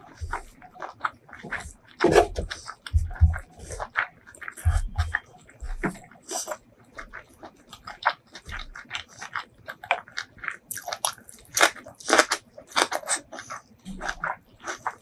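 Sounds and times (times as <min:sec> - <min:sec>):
wet chewing and smacking: 0:00.0 - 0:15.0
crunchy bites: 0:00.1 - 0:15.0.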